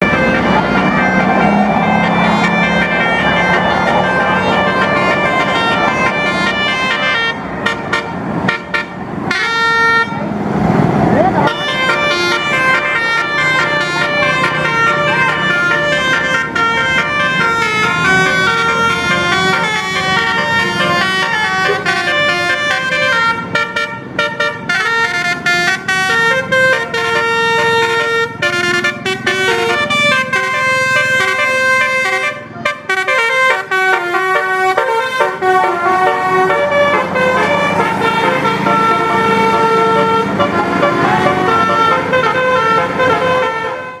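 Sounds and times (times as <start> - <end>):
multi-tone bus horn tune: 0.0 - 10.3, 11.2 - 44.0.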